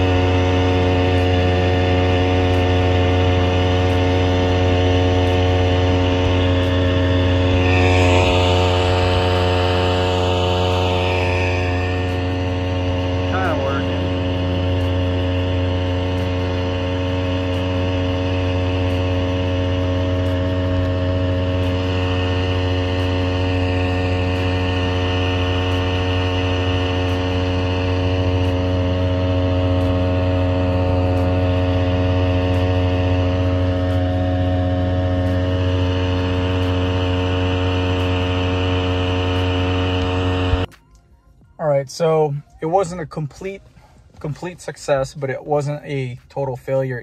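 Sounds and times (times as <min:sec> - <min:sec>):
outboard motor droning: 0:00.0 - 0:47.0.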